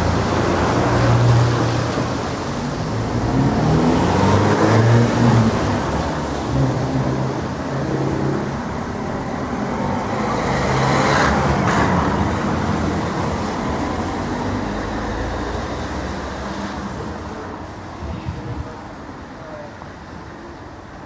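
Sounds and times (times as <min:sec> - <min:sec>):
vehicle passing: 0:00.0 - 0:17.4.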